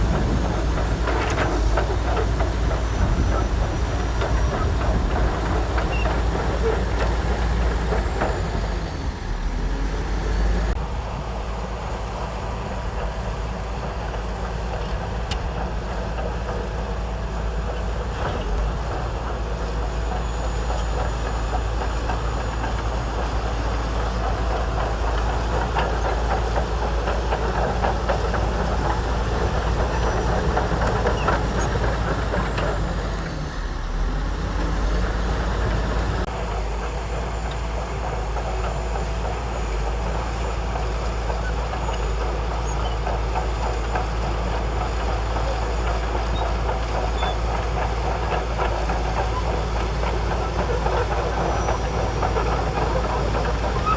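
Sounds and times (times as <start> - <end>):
steel tracks clattering: 0.0 - 9.2, 10.1 - 53.9
bulldozer diesel engine running: 0.0 - 53.9.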